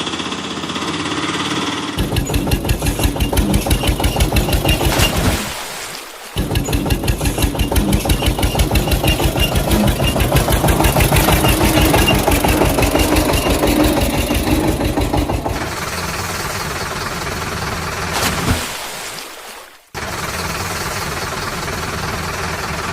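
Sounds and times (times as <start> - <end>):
engine idling: 0.0 - 5.4, 6.3 - 18.4, 19.9 - 22.9.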